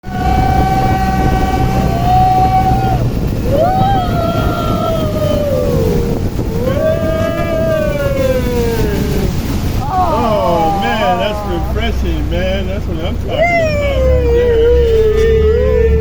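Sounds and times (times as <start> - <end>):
motorboat engine whining: 0.0 - 16.0
rush of wind and water: 0.0 - 16.0.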